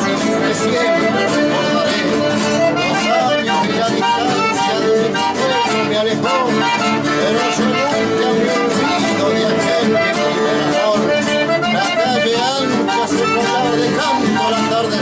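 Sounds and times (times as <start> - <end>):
accordion folk music: 0.0 - 15.0.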